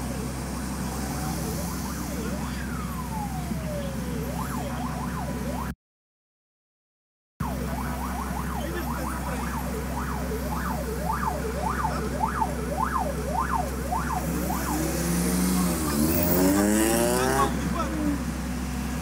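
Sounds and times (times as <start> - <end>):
emergency siren yelping: 0.0 - 5.8, 7.4 - 18.7
low traffic hum: 0.0 - 5.8, 7.4 - 19.0.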